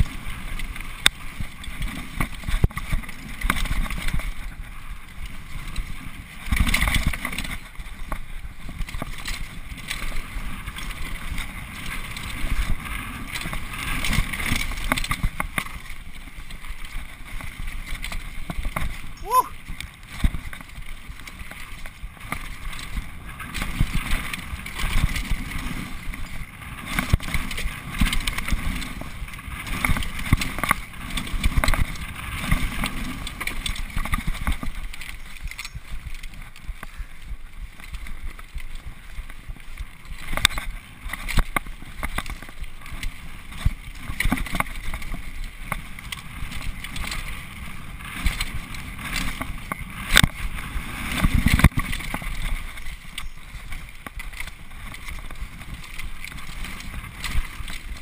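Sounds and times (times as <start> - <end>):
bike clattering over bumps: 0.0 - 58.0
tyres crunching over dirt and stones: 0.0 - 58.0.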